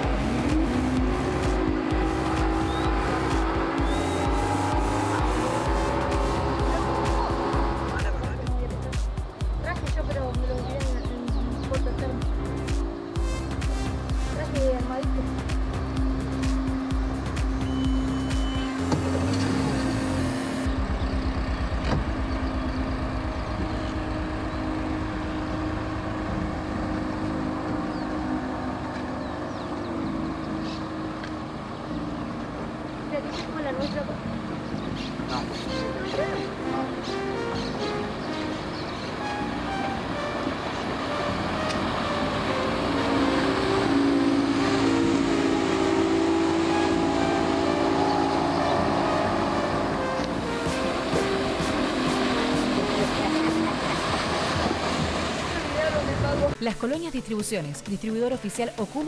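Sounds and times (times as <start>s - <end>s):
motorboat engine running: 0.0s - 56.9s.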